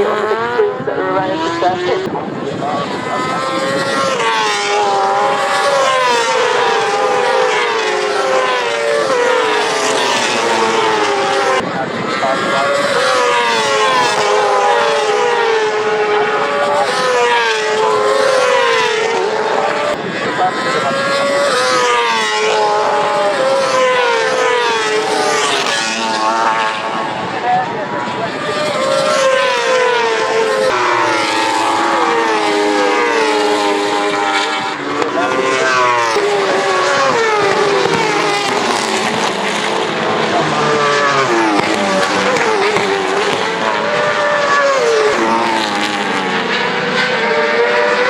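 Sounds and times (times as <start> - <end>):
racing motorcycles passing: 0.0 - 48.0.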